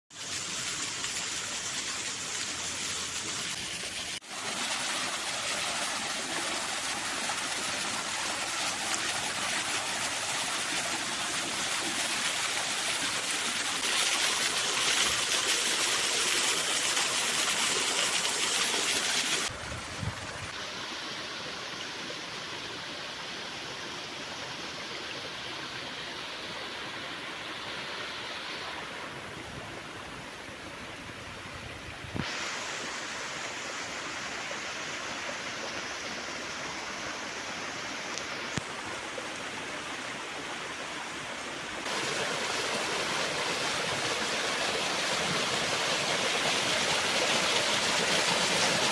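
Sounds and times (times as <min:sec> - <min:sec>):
stream water rushing and splashing: 0:00.1 - 0:48.9.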